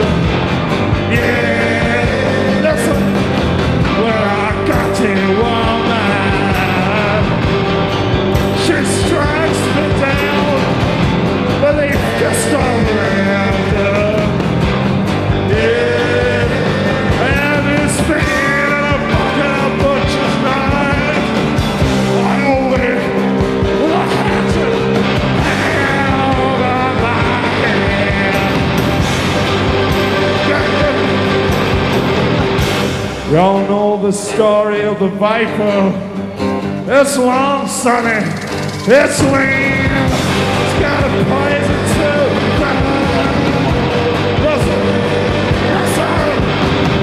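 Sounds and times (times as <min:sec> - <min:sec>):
pounding drums and cymbals: 0:00.0 - 0:33.7, 0:37.8 - 0:47.0
live rock band playing: 0:00.0 - 0:47.0.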